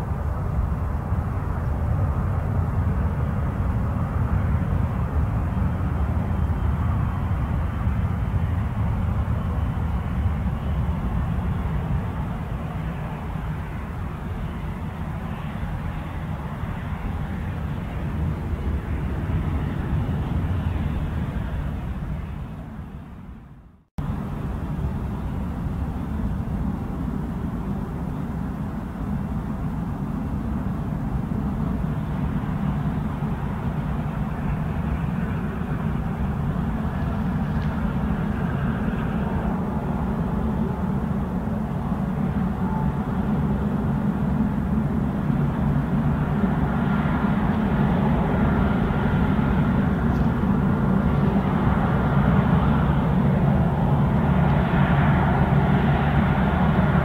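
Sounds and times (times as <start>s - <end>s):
jet engines low rumble: 0.0s - 57.0s.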